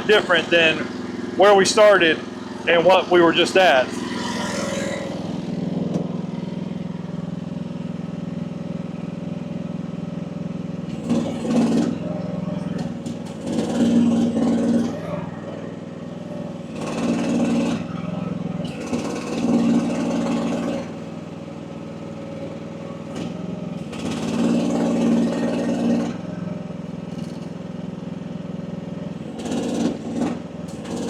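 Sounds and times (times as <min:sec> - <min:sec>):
mini excavator engine under load: 0:00.0 - 0:31.0.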